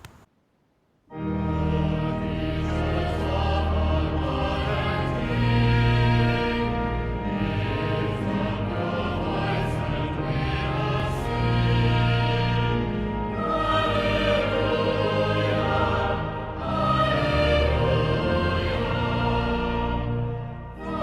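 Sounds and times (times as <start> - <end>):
choir singing sustained notes: 1.1 - 21.0
instrumental accompaniment: 1.1 - 21.0.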